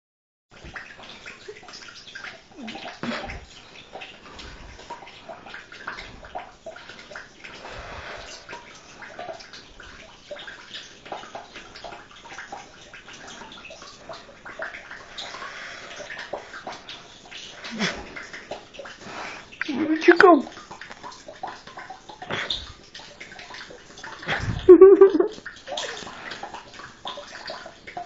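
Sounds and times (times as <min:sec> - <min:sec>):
water trickling into a bathtub: 0:00.5 - 0:28.0.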